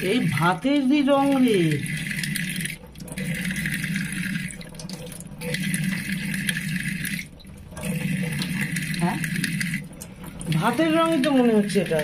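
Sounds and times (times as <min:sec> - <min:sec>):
tap water splashing into sink: 0:01.1 - 0:12.0.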